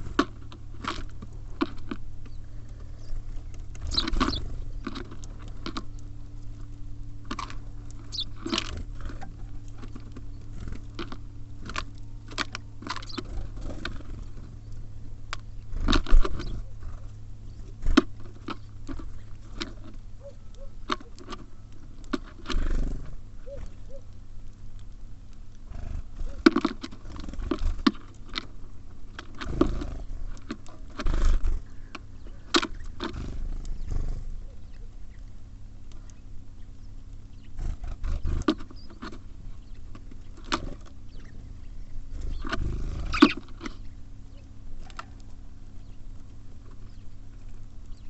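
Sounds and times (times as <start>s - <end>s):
birds pecking at seed: 0.0s - 48.0s
steady low hum: 0.0s - 48.0s.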